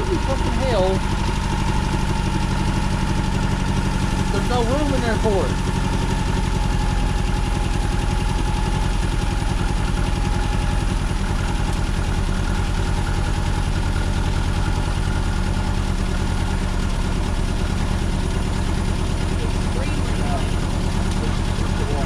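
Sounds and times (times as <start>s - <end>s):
car engine running at full throttle: 0.0s - 22.0s.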